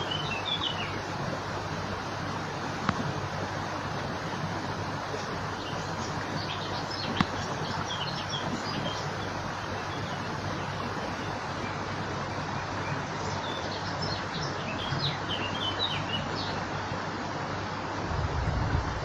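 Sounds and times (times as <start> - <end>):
small birds chirping: 0.0 - 17.0
running water rushing: 0.0 - 19.0.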